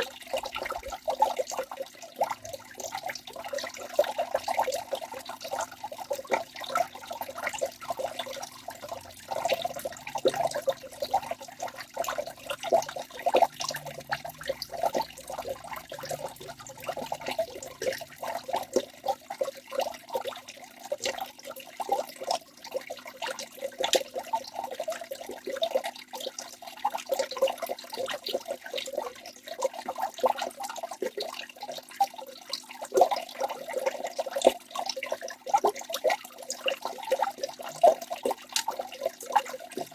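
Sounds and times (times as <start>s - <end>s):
patter of small splashes: 0.0s - 39.9s.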